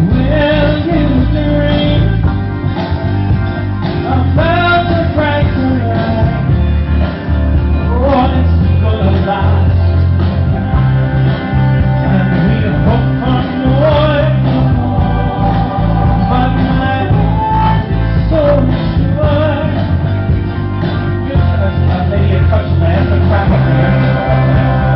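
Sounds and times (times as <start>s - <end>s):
live band through a pa: 0.0s - 24.9s
wavering lead melody: 0.0s - 24.9s.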